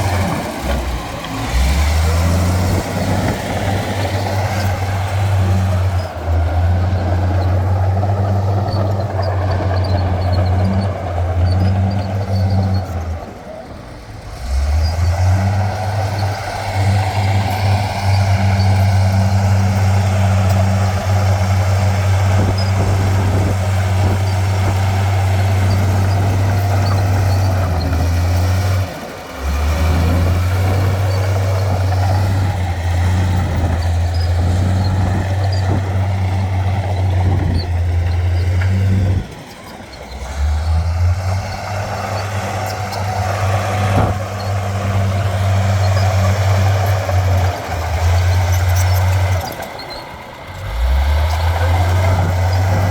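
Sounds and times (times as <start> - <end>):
heavy diesel engine droning: 0.0 - 52.9.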